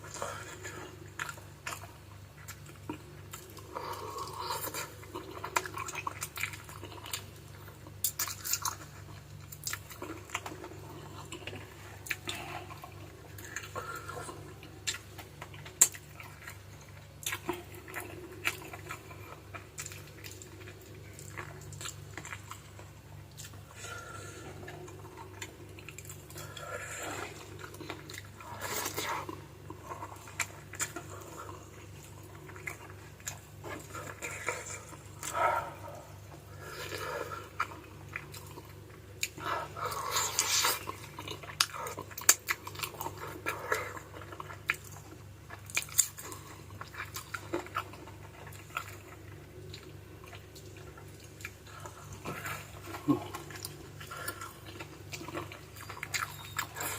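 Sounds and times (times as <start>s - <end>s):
close-up chewing and crunching: 0.0s - 56.9s.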